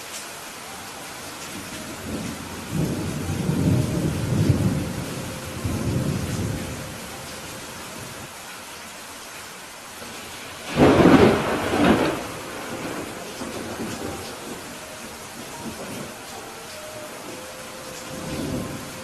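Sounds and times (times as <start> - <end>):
steady rain falling: 0.0 - 19.0
thunder rumbling: 1.6 - 8.3, 10.1 - 19.0.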